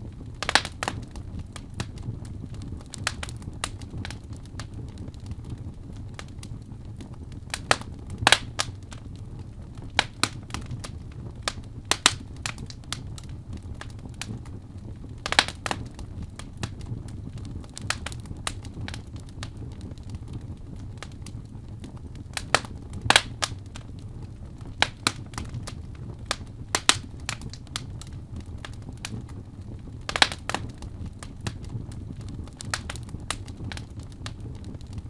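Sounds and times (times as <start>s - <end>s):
fire crackling and popping: 0.0s - 35.0s
low steady rumble: 0.0s - 35.0s.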